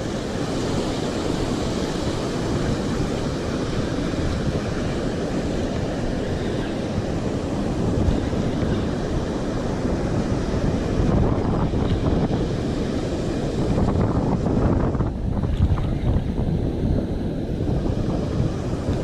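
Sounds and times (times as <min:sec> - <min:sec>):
ocean surf breaking: 0:00.0 - 0:19.0
wind buffeting the microphone: 0:00.0 - 0:19.0.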